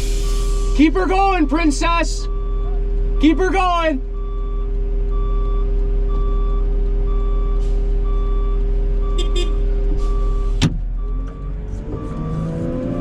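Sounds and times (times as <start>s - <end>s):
backup alarm beeping: 0.0s - 12.7s
wheel loader diesel engine running: 0.0s - 13.0s.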